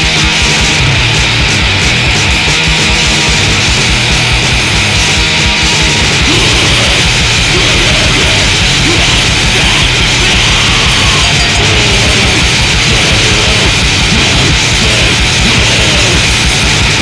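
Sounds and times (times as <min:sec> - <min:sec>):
bass guitar: 0:00.0 - 0:17.0
distorted guitars: 0:00.0 - 0:17.0
fast dense drumming: 0:00.0 - 0:17.0.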